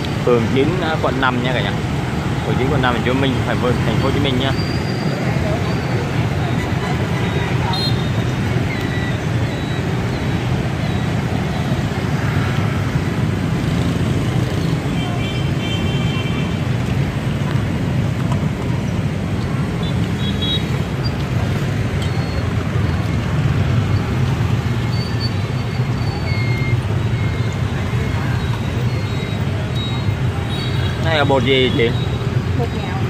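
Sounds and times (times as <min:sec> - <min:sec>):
motorbike and scooter traffic: 0:00.0 - 0:33.0.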